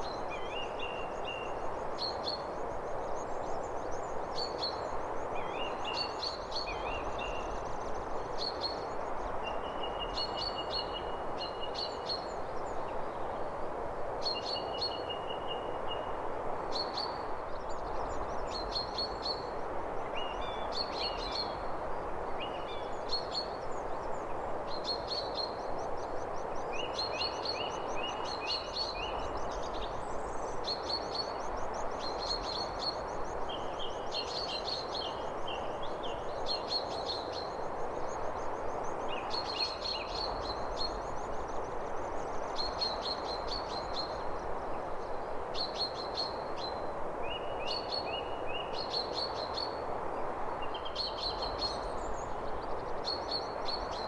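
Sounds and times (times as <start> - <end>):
songbirds chirping: 0.0 - 54.0
steady hiss: 0.0 - 54.0.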